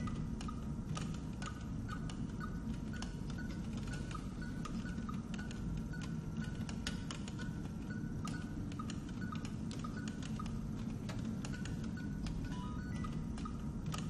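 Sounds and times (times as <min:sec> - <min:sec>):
irregular clicks: 0:00.0 - 0:14.0
steady low hum: 0:00.0 - 0:14.0.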